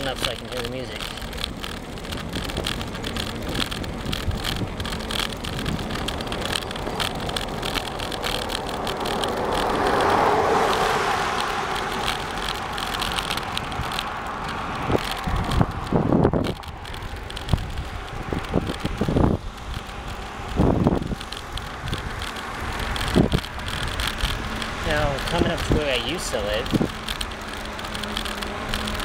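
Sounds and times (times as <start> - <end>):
bicycle road rumble: 0.0 - 29.0
car passing: 0.0 - 29.0
wind on microphone: 1.4 - 29.0.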